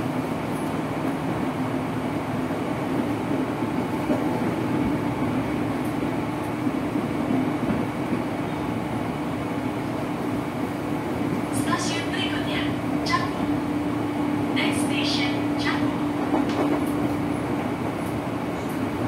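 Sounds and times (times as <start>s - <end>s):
train motor hum: 0.0s - 19.0s
train wheels rumbling on track: 0.0s - 19.0s.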